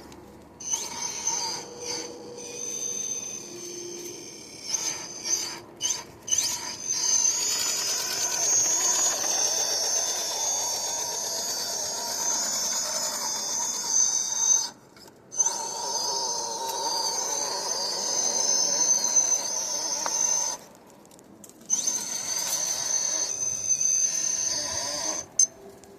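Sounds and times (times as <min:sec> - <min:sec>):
electric motor whining: 0:00.0 - 0:14.6, 0:15.4 - 0:20.6, 0:21.7 - 0:25.5.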